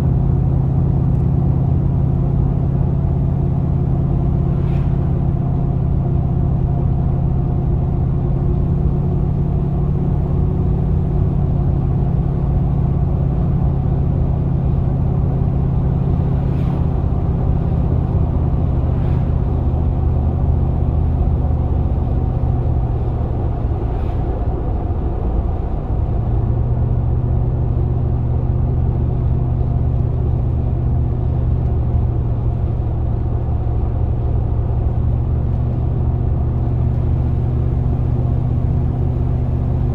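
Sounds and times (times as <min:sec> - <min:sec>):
van engine running while driving: 0:00.0 - 0:39.9.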